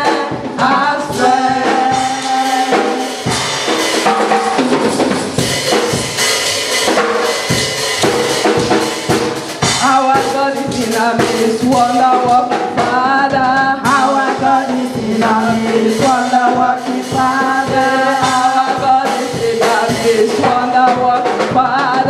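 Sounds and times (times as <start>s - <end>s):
drum kit beat: 0.0s - 22.0s.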